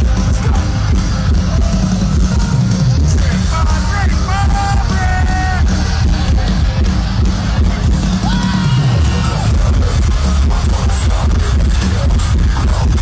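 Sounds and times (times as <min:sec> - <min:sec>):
metal band playing live: 0:00.0 - 0:13.0.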